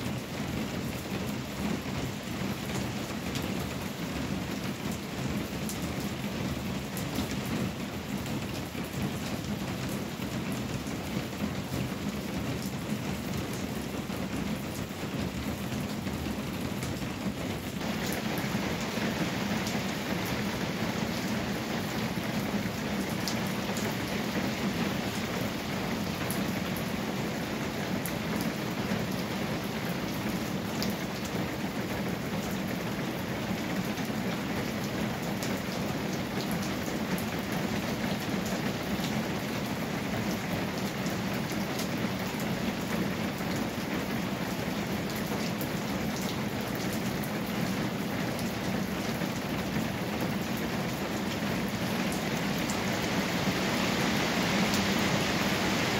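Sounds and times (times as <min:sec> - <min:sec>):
rain on a tin roof: 0:00.0 - 0:55.9.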